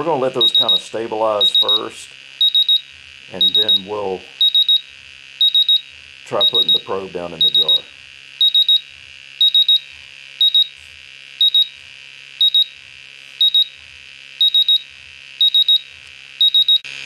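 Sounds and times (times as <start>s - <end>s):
gas monitor alarm beeps: 0.3s - 10.8s, 11.4s - 11.8s, 12.4s - 12.8s, 13.4s - 16.9s.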